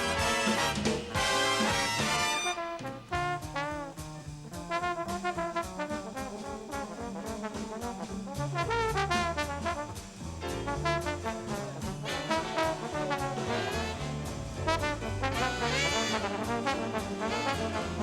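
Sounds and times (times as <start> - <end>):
bass line: 0.0 - 18.0
drum cymbal beat: 0.0 - 18.0
trumpets and trombones: 0.0 - 18.0.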